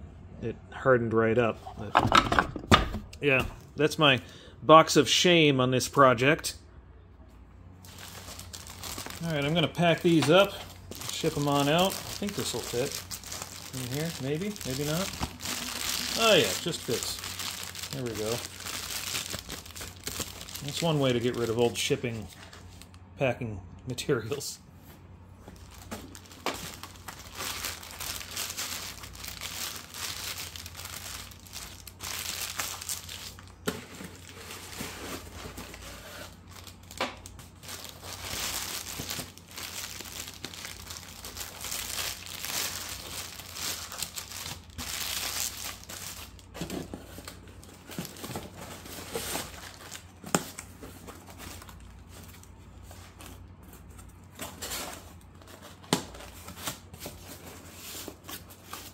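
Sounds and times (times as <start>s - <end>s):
plastic packing bags crinkling: 7.8s - 23.0s, 25.4s - 58.9s.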